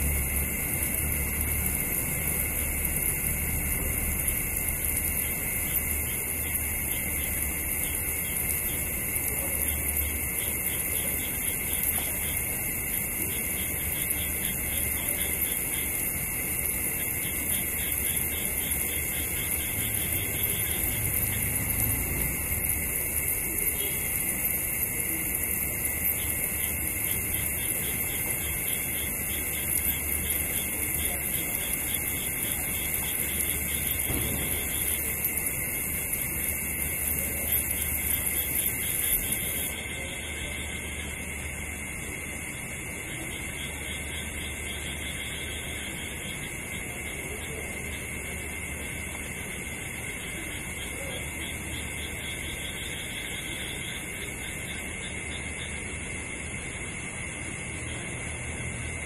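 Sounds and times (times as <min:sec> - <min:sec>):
crickets chirping: 0:00.0 - 0:59.0
frogs pulsing calls: 0:00.0 - 0:59.0.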